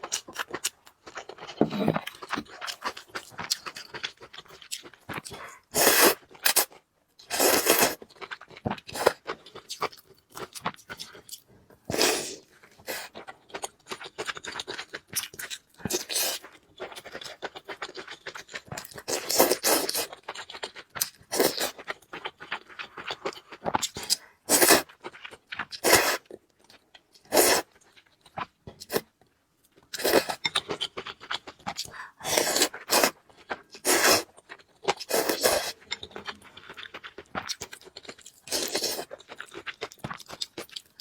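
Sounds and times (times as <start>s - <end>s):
chewing and crunching food: 0.0s - 41.0s.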